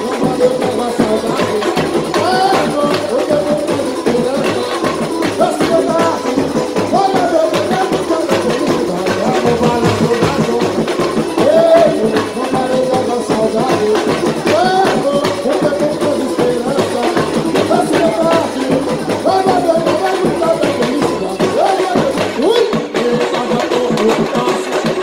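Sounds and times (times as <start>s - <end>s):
person singing melody: 0.0s - 25.0s
surdo drums and hand percussion: 0.0s - 25.0s.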